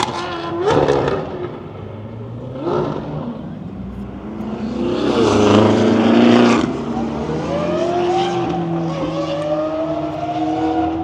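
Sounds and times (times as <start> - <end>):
sports car accelerating past: 0.0 - 11.0.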